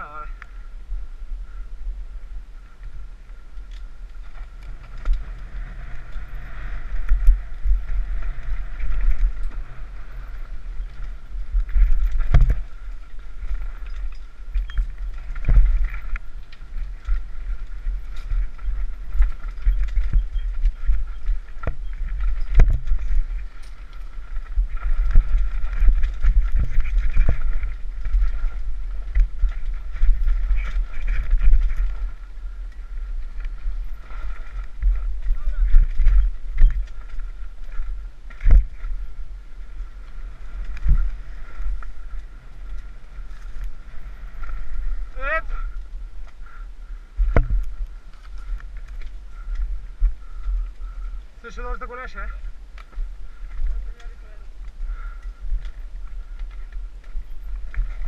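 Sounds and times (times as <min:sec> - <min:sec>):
bike rattling: 0:00.0 - 0:58.0
wind rumble on microphone: 0:00.0 - 0:58.0.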